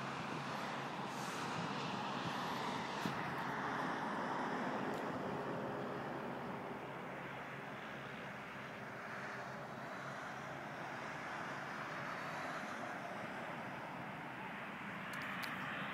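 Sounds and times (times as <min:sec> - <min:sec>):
distant plane engine droning: 0:00.0 - 0:15.9
steady rushing noise: 0:00.0 - 0:15.9.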